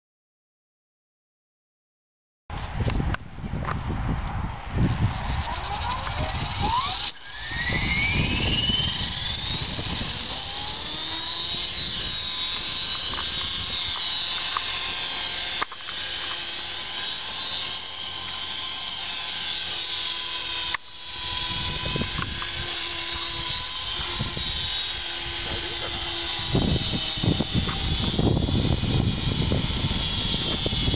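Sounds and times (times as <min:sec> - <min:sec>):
rc helicopter motor whining: 0:02.5 - 0:30.9.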